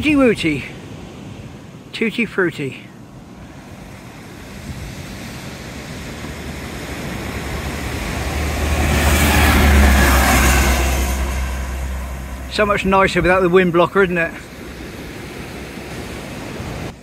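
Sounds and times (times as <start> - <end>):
diesel train passing: 3.1 - 17.0.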